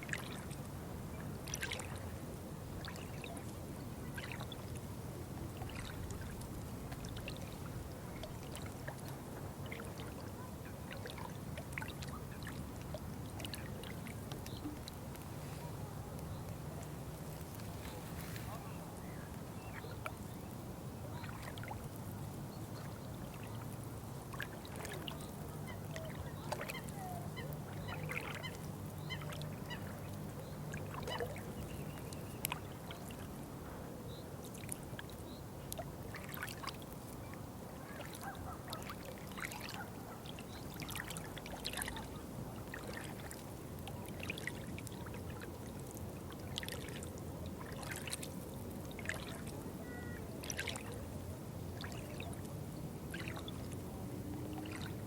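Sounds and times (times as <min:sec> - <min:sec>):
water lapping: 0:00.0 - 0:33.8, 0:34.4 - 0:55.0.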